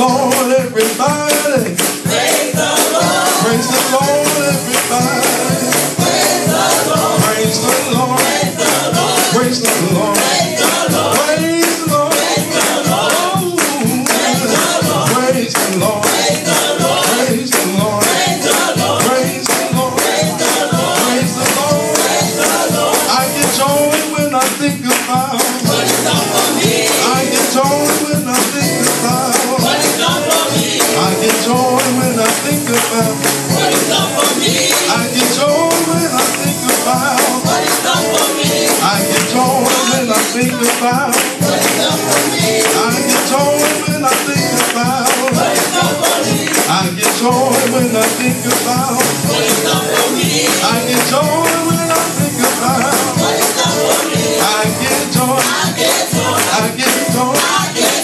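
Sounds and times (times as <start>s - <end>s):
man singing: 0.0s - 2.0s, 3.0s - 58.0s
drum kit steady beat: 0.0s - 58.0s
keyboard: 0.0s - 58.0s.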